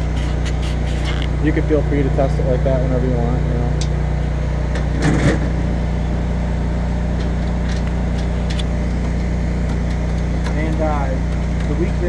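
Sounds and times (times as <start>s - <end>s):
generator humming: 0.0s - 12.0s.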